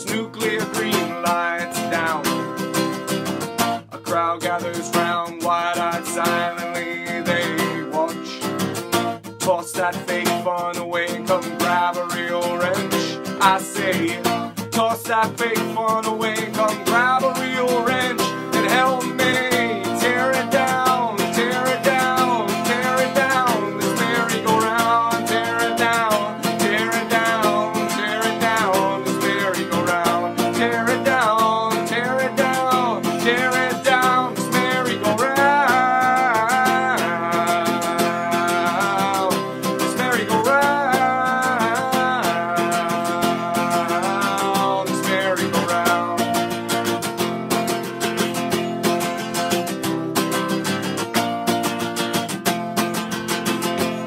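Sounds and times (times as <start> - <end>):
man singing: 0.0 - 3.1, 3.8 - 50.8
strummed acoustic guitar: 0.0 - 54.0.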